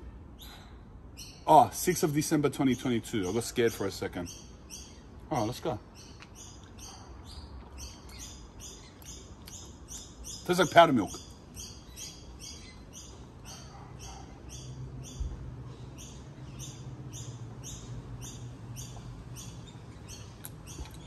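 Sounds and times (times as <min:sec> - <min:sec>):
bird chirping: 0:00.4 - 0:21.0.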